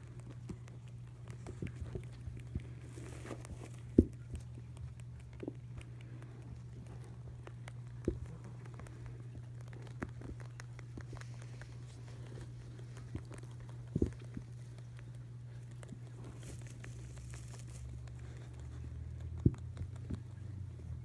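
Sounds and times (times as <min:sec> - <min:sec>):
rabbits munching hay: 0:00.0 - 0:21.0
steady low hum: 0:00.0 - 0:21.0.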